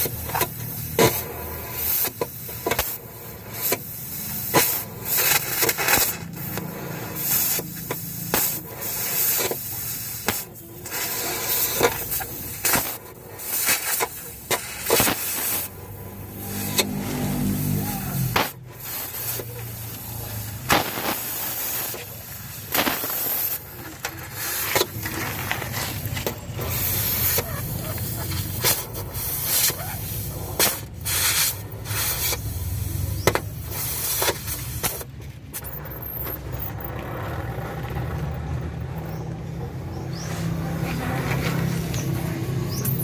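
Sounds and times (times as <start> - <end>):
short hissing bursts: 0.0 - 35.1.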